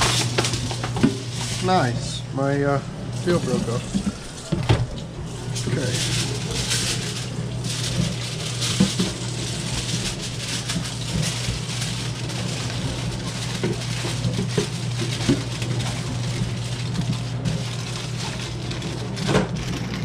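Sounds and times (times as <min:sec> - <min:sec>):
aluminum foil crinkling: 0:00.0 - 0:02.2, 0:03.2 - 0:20.0
steady low hum: 0:00.0 - 0:20.0.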